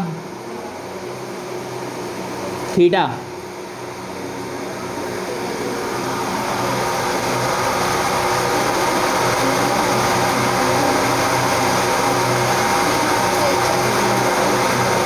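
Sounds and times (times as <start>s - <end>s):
mechanical drone with low hum: 0.0s - 15.0s.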